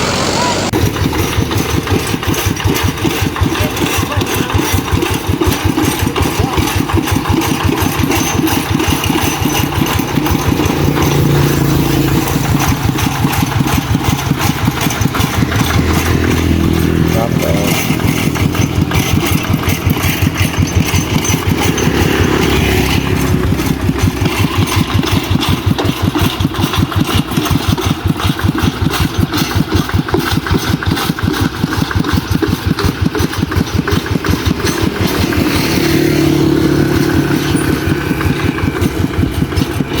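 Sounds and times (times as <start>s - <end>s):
diesel engine chugging: 0.0s - 40.0s.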